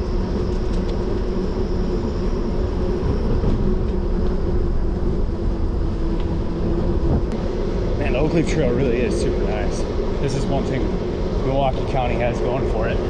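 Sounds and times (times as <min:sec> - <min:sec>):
bicycle tyres rolling hum: 0:00.0 - 0:13.0
wind rushing over microphone: 0:00.0 - 0:13.0.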